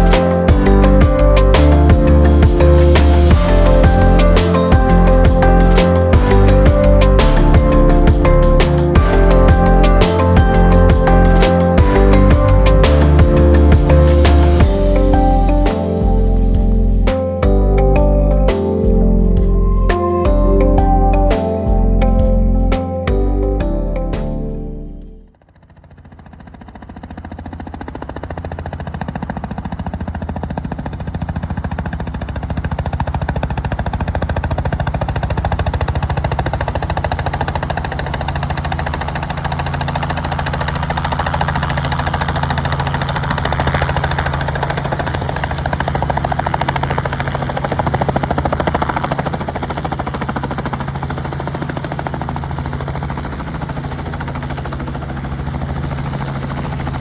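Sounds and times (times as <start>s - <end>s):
helicopter rotor and turbine: 0.0s - 23.0s, 25.5s - 57.0s.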